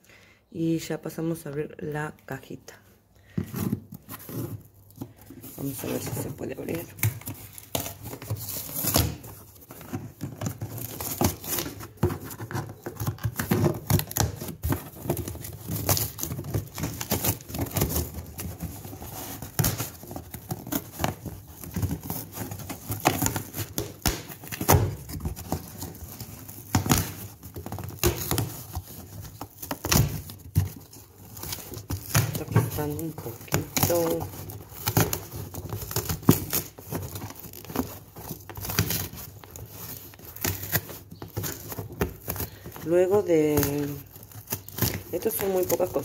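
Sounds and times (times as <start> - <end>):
cardboard box tearing and crinkling: 3.4 - 46.0.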